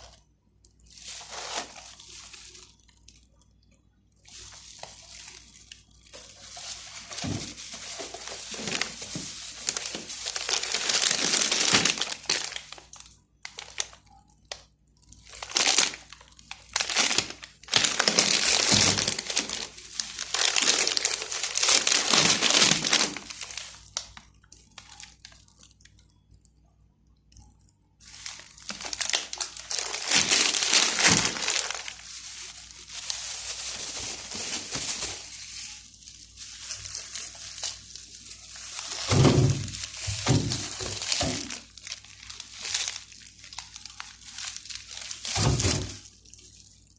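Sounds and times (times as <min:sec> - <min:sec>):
plastic bags crinkling: 0:00.0 - 0:03.5, 0:04.1 - 0:26.1, 0:28.0 - 0:46.9.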